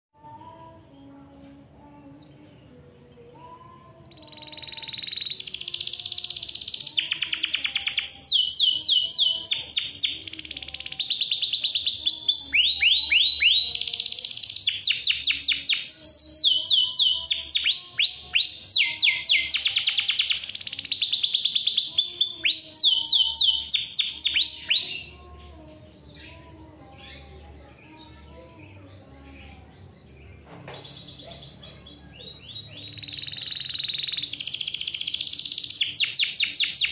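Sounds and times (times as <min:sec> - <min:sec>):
canary singing trills: 0:01.8 - 0:36.9
faint bird chirps: 0:01.9 - 0:36.9.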